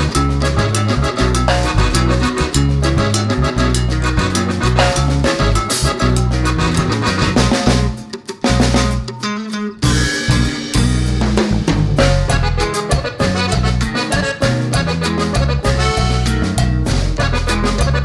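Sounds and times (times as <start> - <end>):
salsa music: 0.0 - 18.0.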